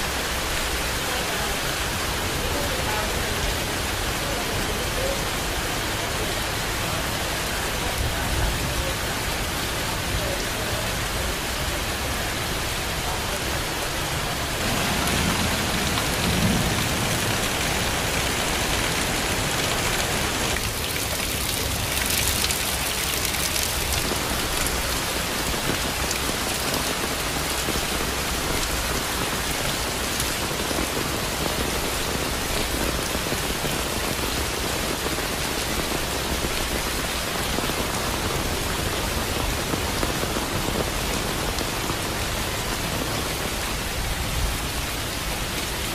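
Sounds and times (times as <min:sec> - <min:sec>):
rain pattering on tiled roof: 0:00.0 - 0:45.9
water pouring off eaves: 0:00.0 - 0:45.9.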